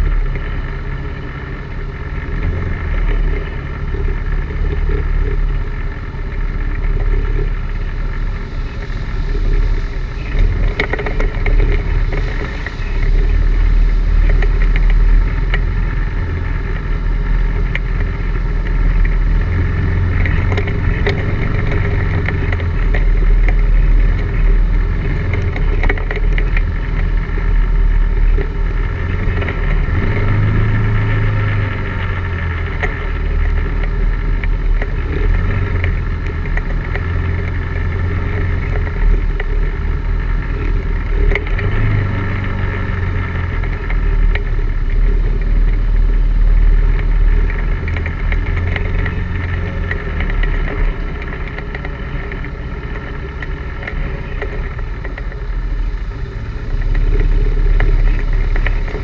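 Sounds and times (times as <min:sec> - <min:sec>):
atv engine running: 0:00.0 - 0:59.0
knocks and rattles over bumps: 0:00.0 - 0:59.0.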